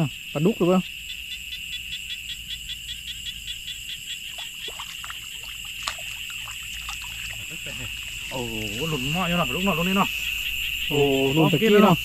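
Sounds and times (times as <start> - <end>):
high insect trill: 0.0 - 12.0
rapid pulsed frog call: 0.0 - 12.0.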